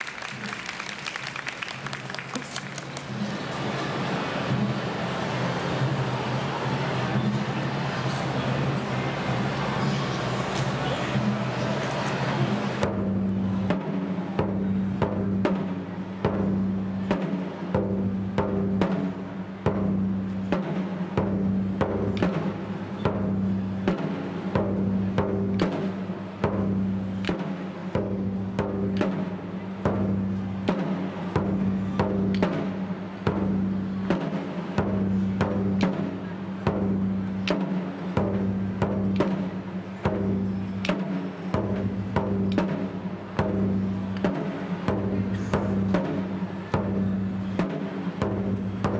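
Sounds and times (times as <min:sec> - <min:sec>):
taiko drums in driving rhythm: 0:03.0 - 0:09.6, 0:10.3 - 0:48.9.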